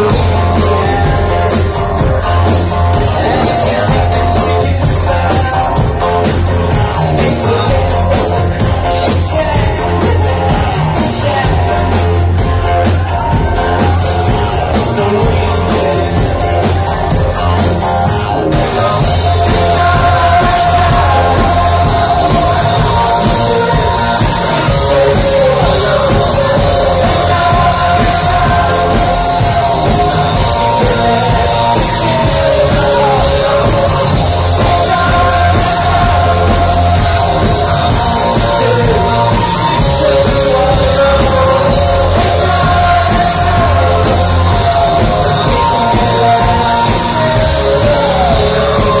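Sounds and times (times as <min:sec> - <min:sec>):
live rock band playing: 0:00.0 - 0:49.0
person singing: 0:00.0 - 0:49.0.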